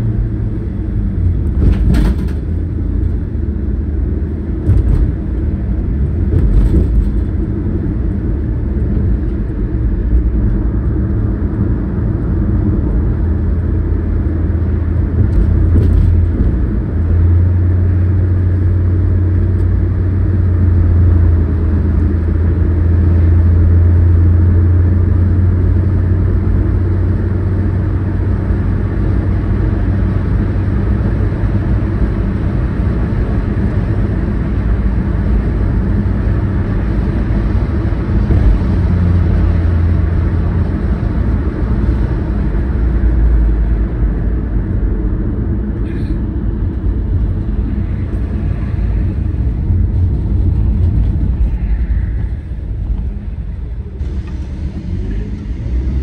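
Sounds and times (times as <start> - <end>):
car engine and tyre drone: 0.0 - 56.0.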